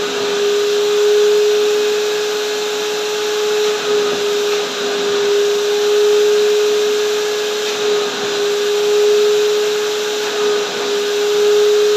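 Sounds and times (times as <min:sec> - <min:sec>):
vacuum cleaner running: 0:00.0 - 0:11.9
vacuum nozzle on fabric cushions: 0:00.0 - 0:11.9.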